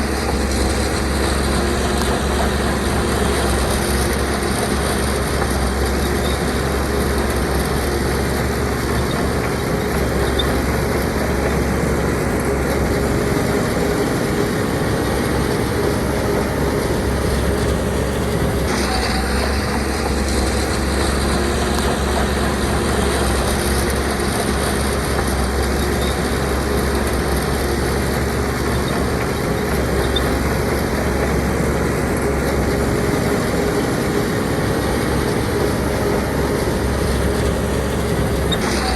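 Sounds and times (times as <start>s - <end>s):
diesel earthmoving machinery running: 0.0s - 38.9s.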